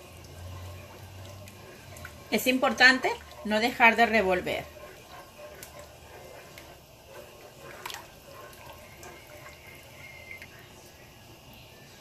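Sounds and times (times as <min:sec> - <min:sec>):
wooden spoon stirring sauce: 0:00.0 - 0:11.0.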